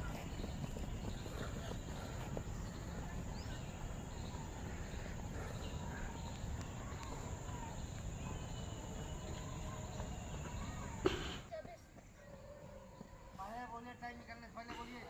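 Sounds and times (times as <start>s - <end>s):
faint chirps: 0.0s - 13.4s.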